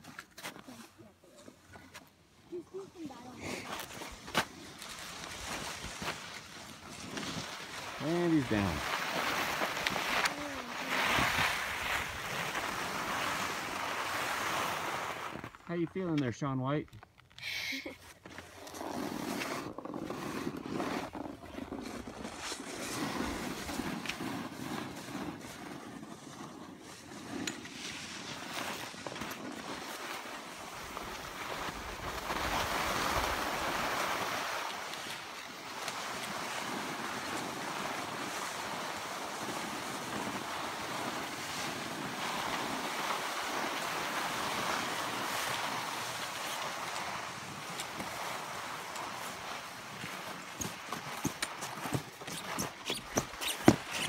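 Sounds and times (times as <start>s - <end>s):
boards sliding over snow: 0.0s - 16.1s, 17.7s - 54.0s.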